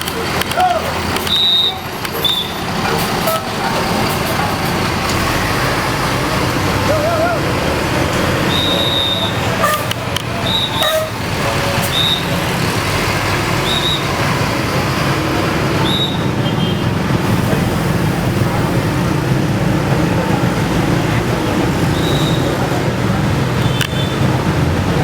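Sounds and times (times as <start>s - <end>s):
bus engine running: 0.0s - 25.0s
road traffic noise: 0.0s - 25.0s.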